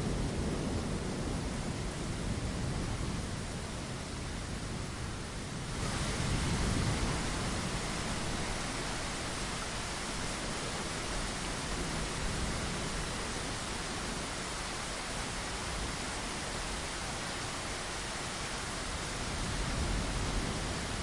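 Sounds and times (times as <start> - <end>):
rain on a window: 0.0 - 21.0.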